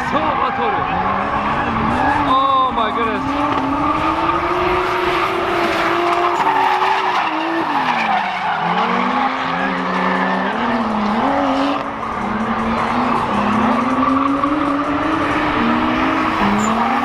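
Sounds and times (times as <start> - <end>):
car engines at high revs: 0.0 - 17.0
tire squeal: 0.0 - 17.0.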